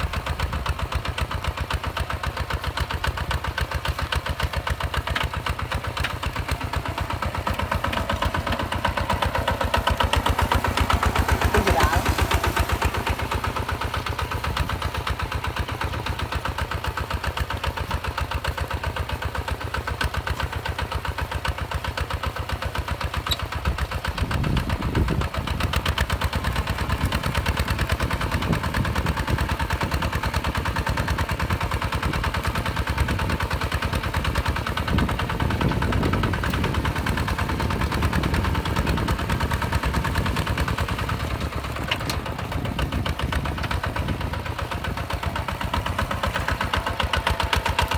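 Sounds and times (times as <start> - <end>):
diesel engine knocking: 0.0 - 47.9.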